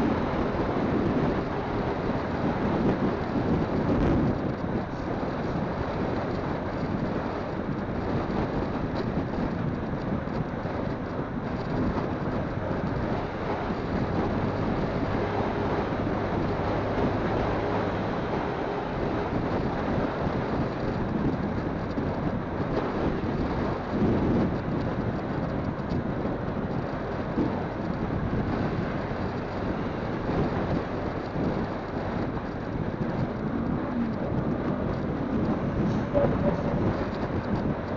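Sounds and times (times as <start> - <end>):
motorcycle engine running: 0.0 - 37.9
wind rushing over microphone: 0.0 - 37.9.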